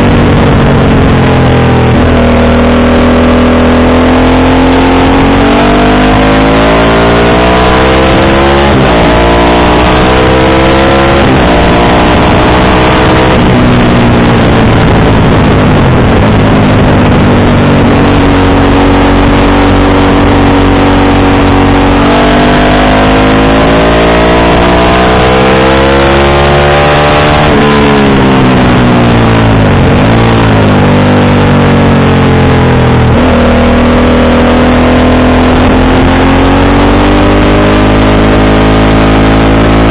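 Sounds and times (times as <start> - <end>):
motorcycle engine accelerating: 0.0 - 39.9
steady rush of noise: 0.0 - 39.9.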